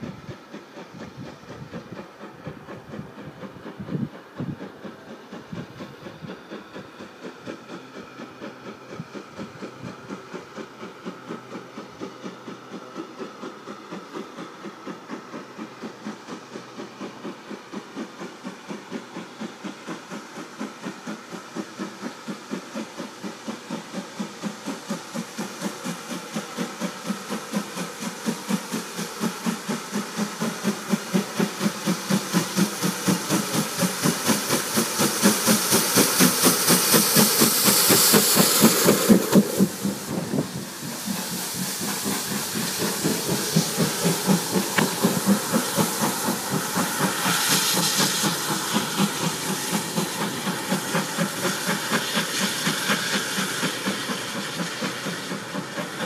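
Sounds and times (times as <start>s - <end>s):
steam locomotive chuffing: 0.0s - 56.0s.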